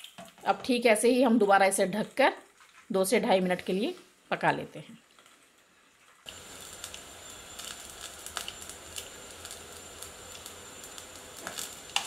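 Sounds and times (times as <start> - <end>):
oil sizzling with crackles: 0.0 - 12.0.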